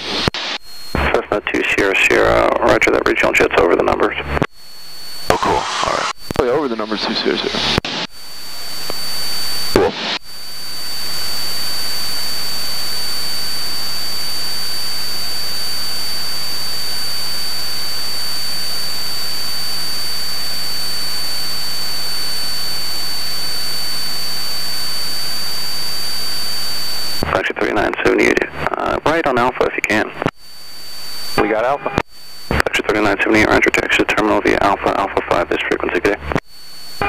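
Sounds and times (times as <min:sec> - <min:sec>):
high-pitched whine: 0:00.0 - 0:37.0.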